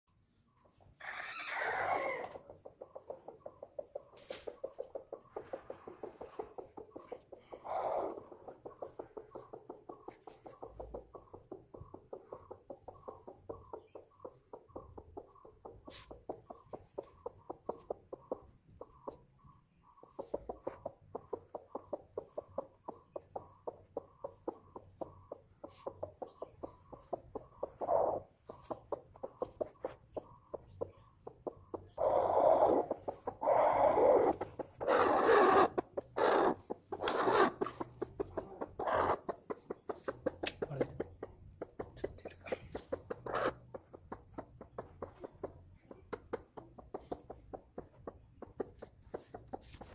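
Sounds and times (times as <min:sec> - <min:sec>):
hen clucking: 0:00.5 - 0:49.9.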